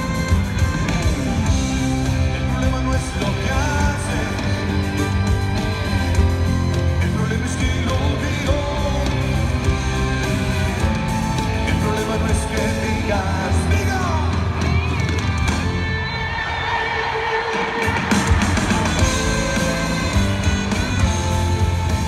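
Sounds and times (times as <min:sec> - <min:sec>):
bass line: 0:00.0 - 0:16.2, 0:18.1 - 0:22.0
live band music: 0:00.0 - 0:22.0
man singing: 0:01.4 - 0:15.1, 0:17.1 - 0:21.8.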